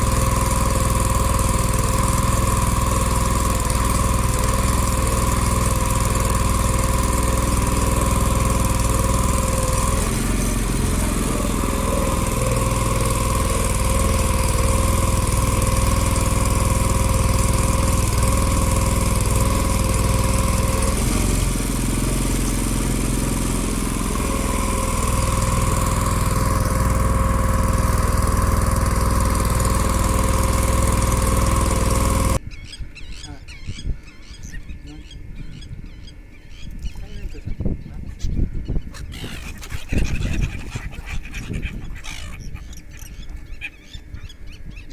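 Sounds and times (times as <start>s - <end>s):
small engine running with whine: 0.0s - 32.4s, 39.0s - 44.6s.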